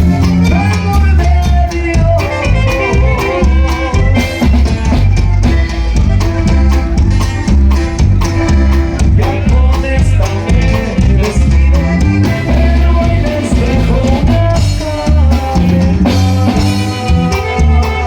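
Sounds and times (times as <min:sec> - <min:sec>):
band music with bass line: 0:00.0 - 0:18.0.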